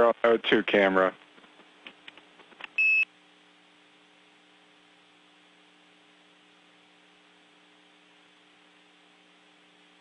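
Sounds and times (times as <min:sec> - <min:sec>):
low electrical hum with hiss: 0:00.0 - 0:10.0.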